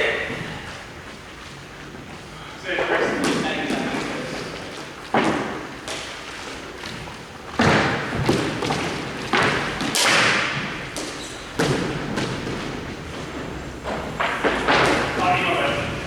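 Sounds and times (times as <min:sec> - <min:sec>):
sharp knocks and slams in rink: 0:02.8 - 0:16.0.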